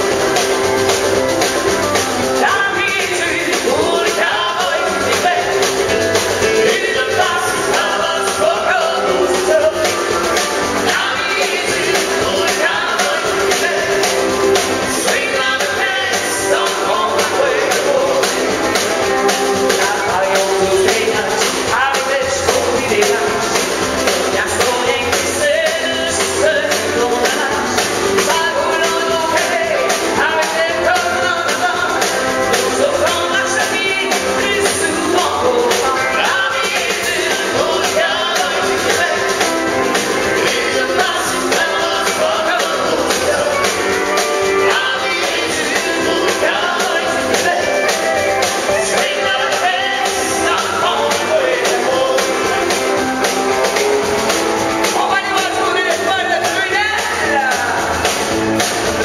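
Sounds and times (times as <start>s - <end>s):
acoustic guitar: 0.0s - 59.0s
drums with steady beat: 0.0s - 59.0s.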